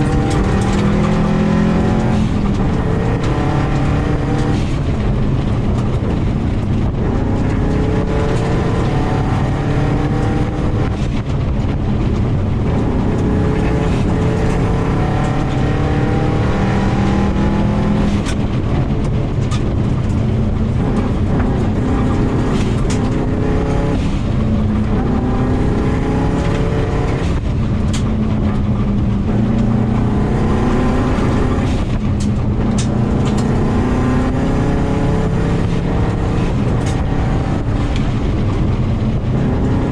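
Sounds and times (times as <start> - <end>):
tyres rumbling on gravel: 0.0 - 34.3
car engine revving: 0.0 - 39.9.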